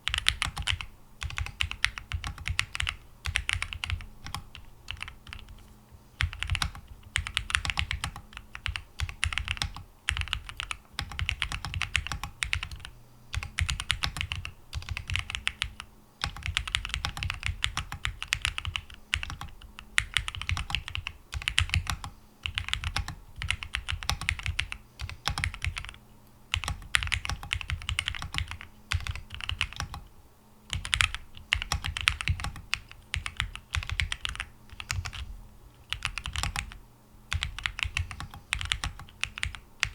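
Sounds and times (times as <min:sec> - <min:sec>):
typing on mechanical keyboard: 0:00.0 - 0:05.6, 0:06.2 - 0:30.1, 0:30.7 - 0:35.2, 0:35.8 - 0:39.9.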